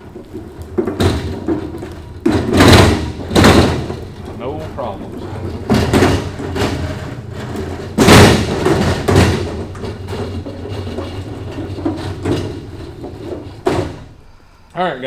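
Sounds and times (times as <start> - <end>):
cart rolling on concrete: 0.0 - 14.2
cart thumping over bumps: 0.0 - 14.2.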